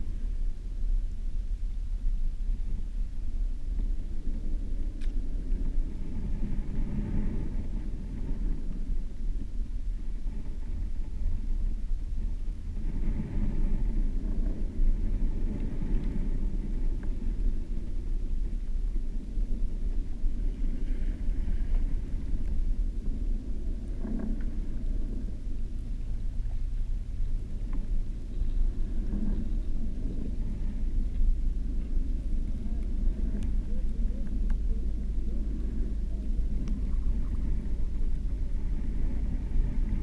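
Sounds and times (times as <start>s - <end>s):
muffled underwater surf rumble: 0.0s - 40.0s.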